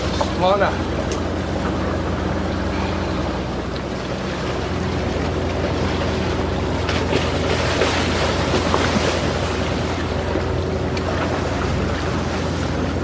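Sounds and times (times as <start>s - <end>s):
boat engine running: 0.0s - 13.0s
water noise: 0.0s - 13.0s.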